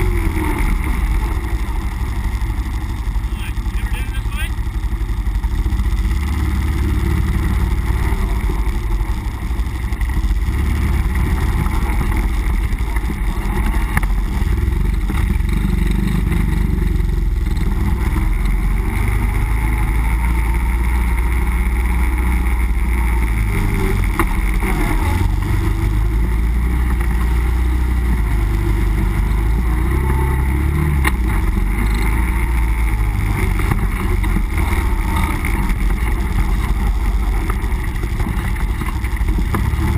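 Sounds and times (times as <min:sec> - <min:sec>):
vehicle engine rumbling under load: 0:00.0 - 0:39.9.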